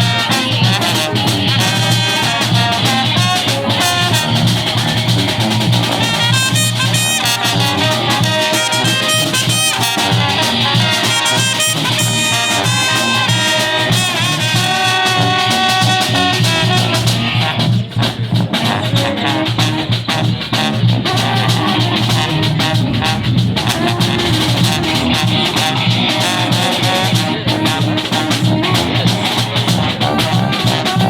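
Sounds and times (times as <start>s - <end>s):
brass band playing: 0.0s - 31.0s
percussion: 0.0s - 31.0s.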